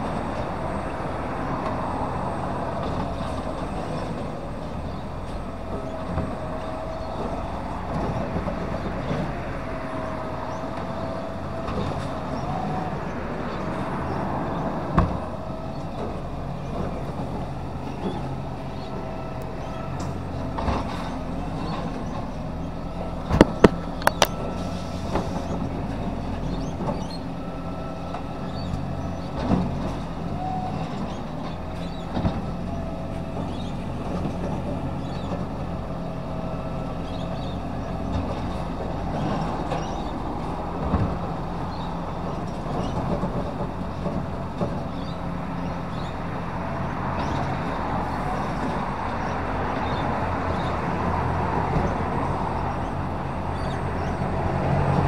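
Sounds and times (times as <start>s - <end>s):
garbage truck engine running: 0.0s - 55.0s
hydraulics whining: 0.0s - 55.0s.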